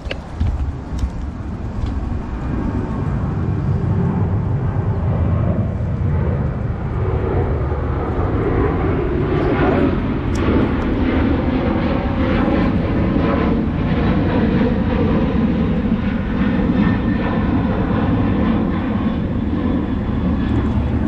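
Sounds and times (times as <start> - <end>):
airplane flying low overhead: 0.0 - 21.0.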